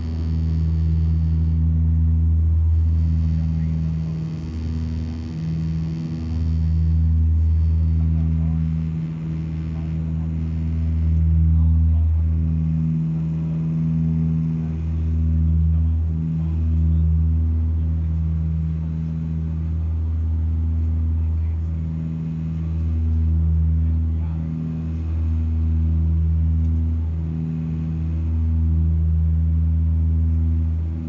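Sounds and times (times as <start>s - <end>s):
turboprop engines droning: 0.0s - 31.0s.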